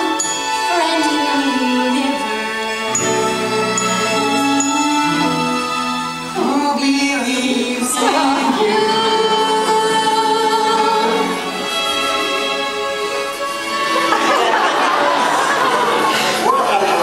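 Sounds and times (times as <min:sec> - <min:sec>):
musical accompaniment: 0:00.0 - 0:17.0
people singing long notes: 0:00.0 - 0:17.0.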